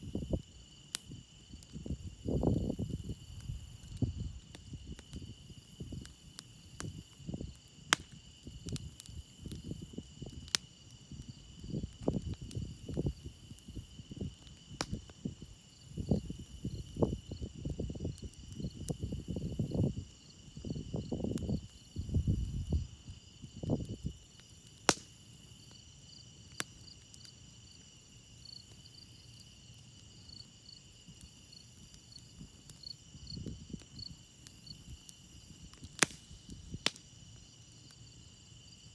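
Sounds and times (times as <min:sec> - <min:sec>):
crickets chirping: 0:00.0 - 0:38.9
campfire popping: 0:00.1 - 0:38.9.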